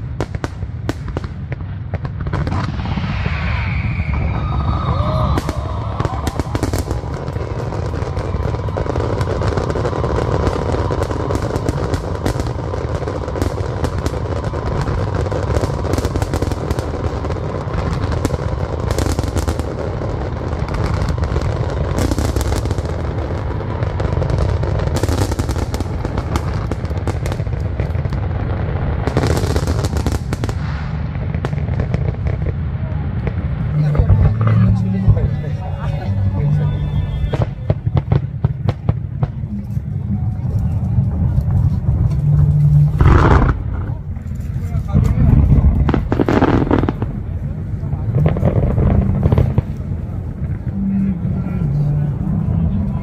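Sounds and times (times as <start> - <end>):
fireworks crackling and popping: 0.0 - 53.0
low booming rumble: 1.3 - 24.7, 29.9 - 53.0.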